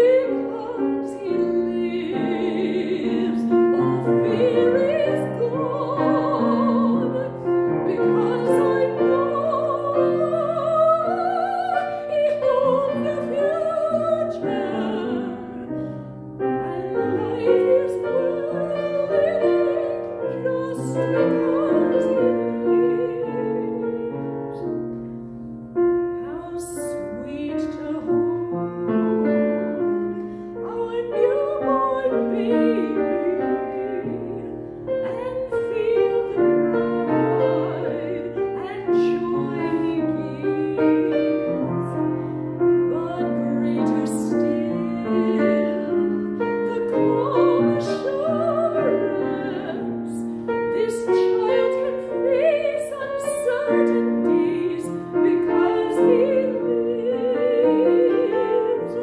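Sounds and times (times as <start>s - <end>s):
woman singing with vibrato: 0.0s - 24.6s, 26.2s - 29.8s, 30.6s - 59.0s
piano accompaniment: 0.0s - 59.0s.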